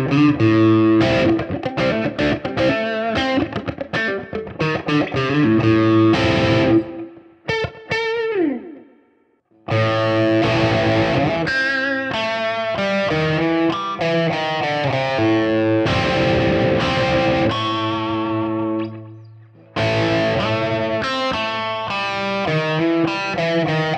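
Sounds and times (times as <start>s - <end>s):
overdriven electric guitar: 0.0s - 23.9s.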